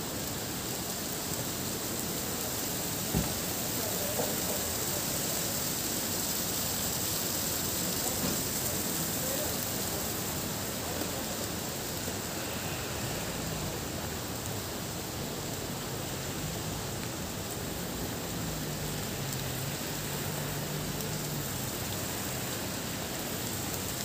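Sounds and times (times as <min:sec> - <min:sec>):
snow and sleet hissing: 0:00.0 - 0:24.0.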